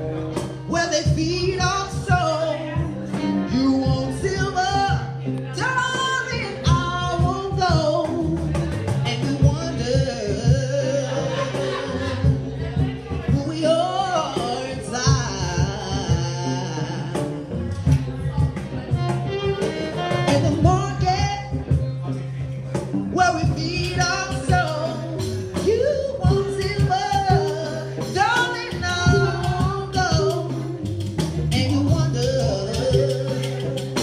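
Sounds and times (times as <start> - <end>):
bass and light percussion music: 0.0 - 34.0
woman singing: 0.4 - 21.8, 23.1 - 34.0.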